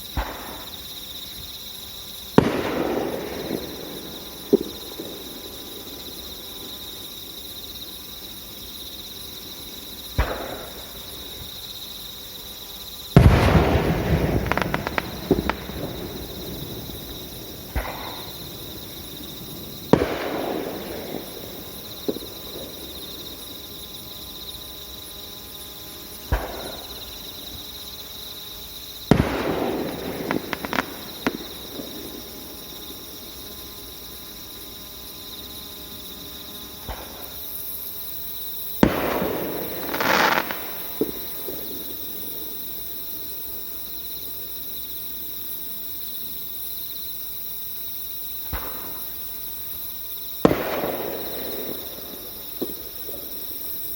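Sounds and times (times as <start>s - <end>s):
fireworks bursting: 0.0s - 44.3s, 48.2s - 53.9s
fireworks crackling: 0.0s - 44.6s, 48.2s - 53.9s
crickets chirping: 0.0s - 53.9s.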